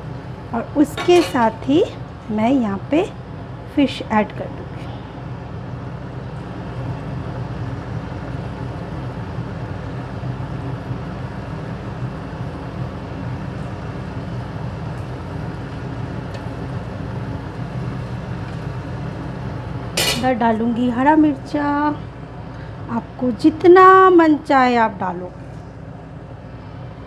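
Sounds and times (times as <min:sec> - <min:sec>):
electric fan humming: 0:00.0 - 0:27.0.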